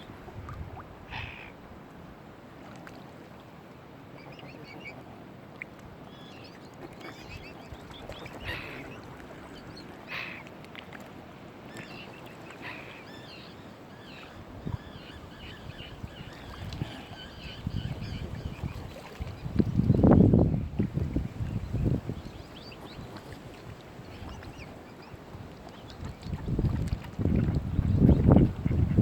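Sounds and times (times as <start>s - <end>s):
wind and water hiss: 0.0s - 29.0s
waterbirds peeping: 0.7s - 1.6s, 4.1s - 5.1s, 6.0s - 29.0s.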